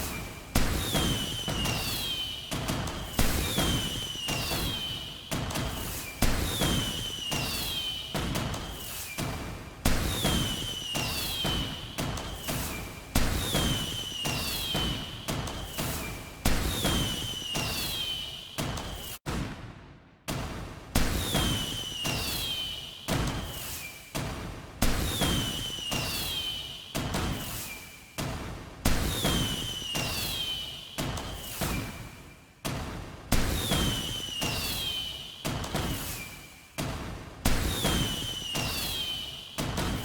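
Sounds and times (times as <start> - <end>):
falling firework whistle: 0.0 - 19.2, 21.0 - 24.2, 24.9 - 28.2, 28.9 - 32.3, 33.4 - 36.7, 37.5 - 40.0
fireworks bangs and booms: 0.0 - 40.0.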